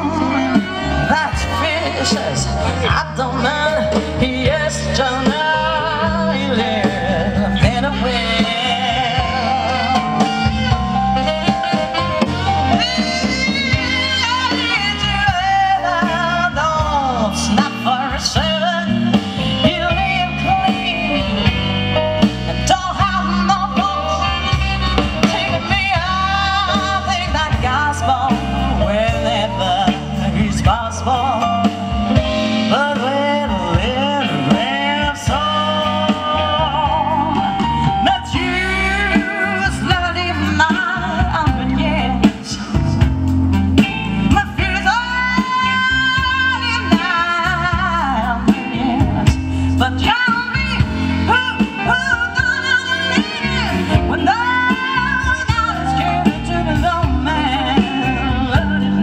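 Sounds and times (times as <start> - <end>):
live soul band playing: 0.0 - 59.0
woman singing lead: 0.0 - 59.0.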